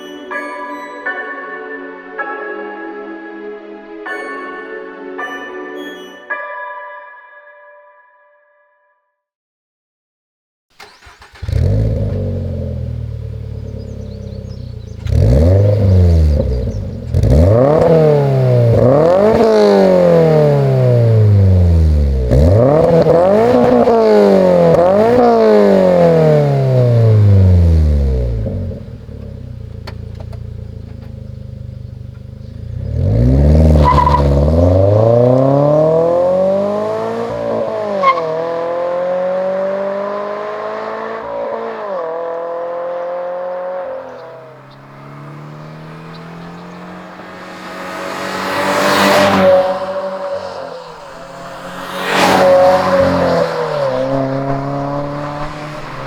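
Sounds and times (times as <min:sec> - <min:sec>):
car engine starting and idling: 0:10.7 - 0:56.0
engine revving: 0:10.8 - 0:56.0.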